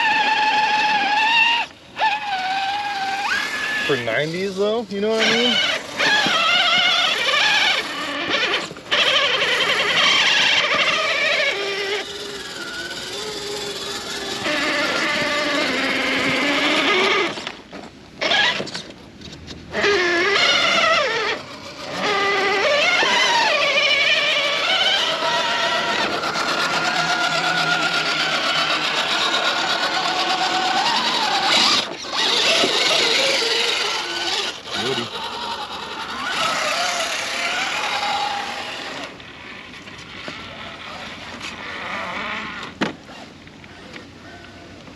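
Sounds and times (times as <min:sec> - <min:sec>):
electric motor and gearbox whining: 0:00.0 - 0:44.9.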